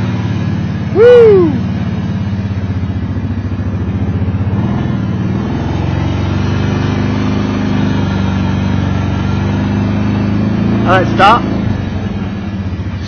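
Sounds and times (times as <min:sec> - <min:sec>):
atv engine under throttle: 0:00.0 - 0:13.0.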